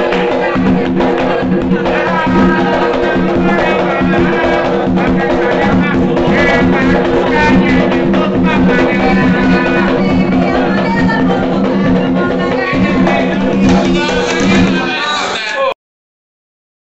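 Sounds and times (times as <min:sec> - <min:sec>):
hand drums playing fast rhythm: 0:00.0 - 0:15.4.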